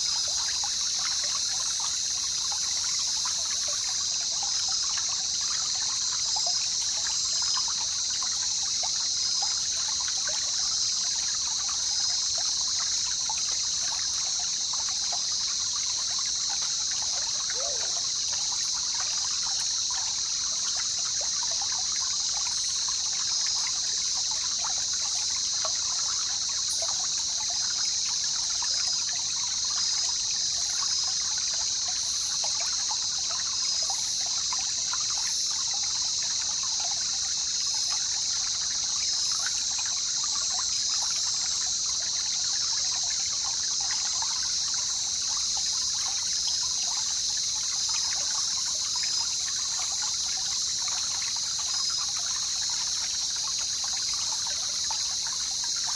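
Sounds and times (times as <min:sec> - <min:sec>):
river water trickling: 0:00.0 - 0:55.9.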